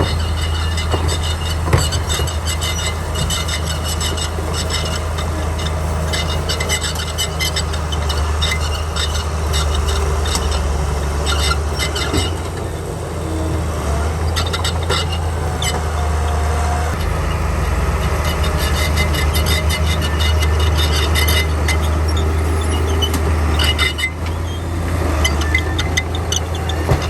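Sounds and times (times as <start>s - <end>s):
bulldozer diesel engine droning: 0.0s - 27.0s
steel tracks clanking and squeaking: 0.0s - 27.0s.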